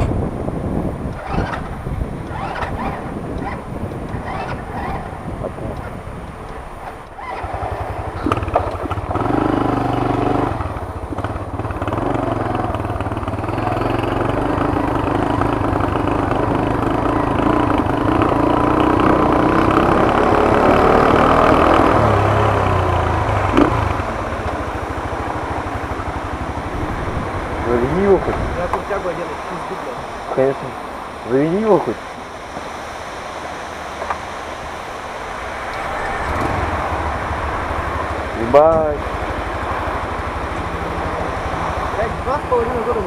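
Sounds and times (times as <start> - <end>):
small motorcycle engine revving: 1.0 - 6.0, 6.8 - 33.0, 34.0 - 43.0.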